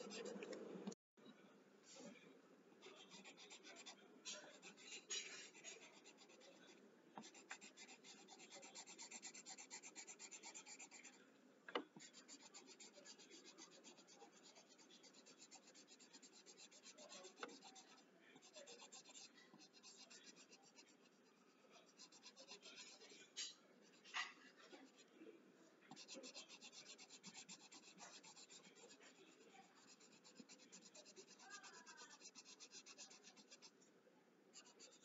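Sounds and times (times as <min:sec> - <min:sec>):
pencil shading on paper: 0:00.0 - 0:00.5, 0:02.8 - 0:11.2, 0:12.0 - 0:25.0, 0:25.9 - 0:33.7, 0:34.5 - 0:35.0.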